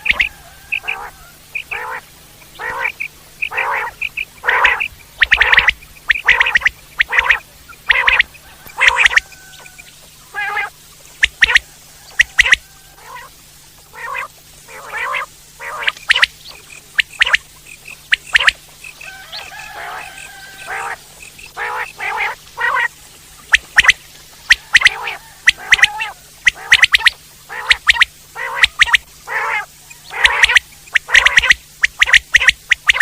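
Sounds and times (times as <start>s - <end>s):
quail calling: 0.0s - 33.0s.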